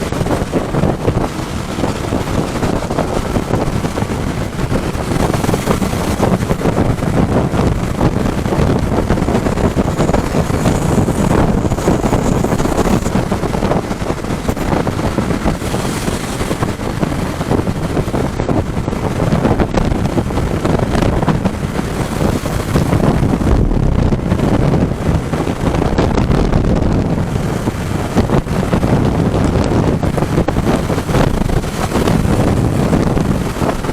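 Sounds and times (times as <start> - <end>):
motorcycle running: 0.0 - 33.9
wind buffeting microphone: 0.0 - 33.9.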